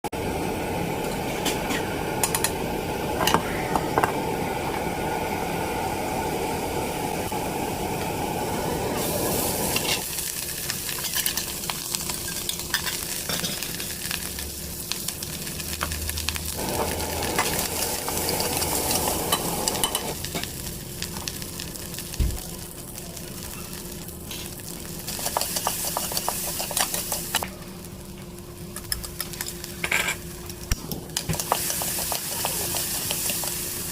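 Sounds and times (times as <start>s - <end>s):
food sizzling in a pan: 0.2s - 33.9s.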